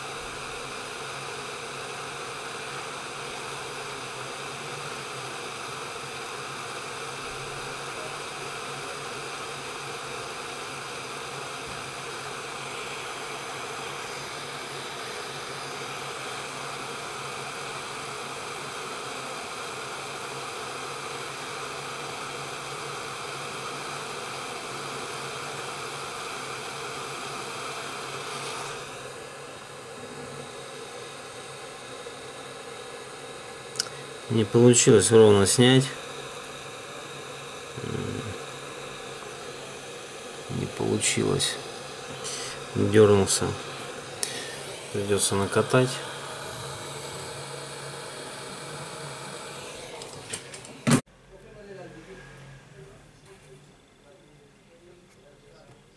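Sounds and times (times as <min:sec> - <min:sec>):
hot air blower hissing: 0:00.0 - 0:52.9.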